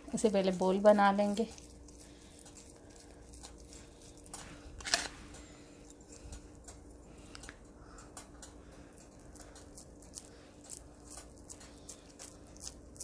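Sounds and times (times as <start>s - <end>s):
faint steady hum: 0.0s - 13.0s
wet hands squishing meat: 0.0s - 13.0s.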